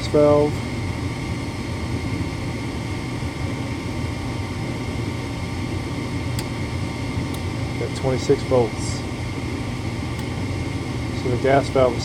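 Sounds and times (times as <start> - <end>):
furnace inducer motor running: 0.0 - 12.0.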